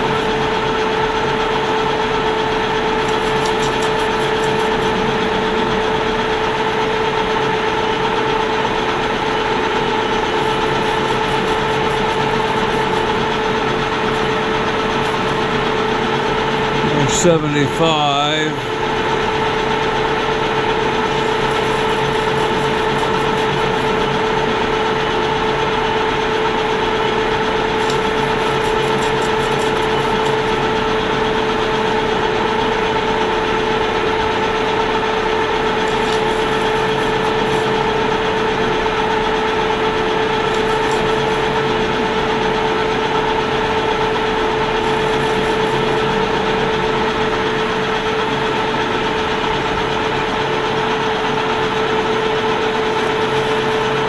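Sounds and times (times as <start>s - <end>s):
machine tool humming: 0.0s - 54.0s.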